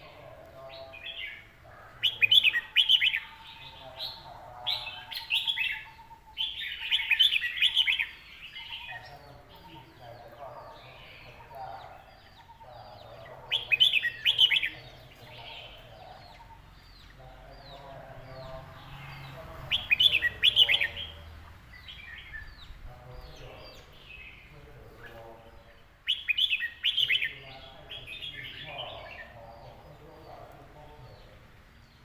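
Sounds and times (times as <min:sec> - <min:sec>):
bird song phrases: 0:00.0 - 0:32.0
soft bird chirps: 0:00.0 - 0:32.0.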